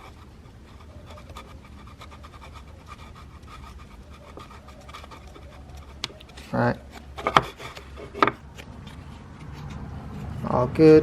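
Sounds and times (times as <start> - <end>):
spreader scraping and stirring filler: 0.0 - 10.6.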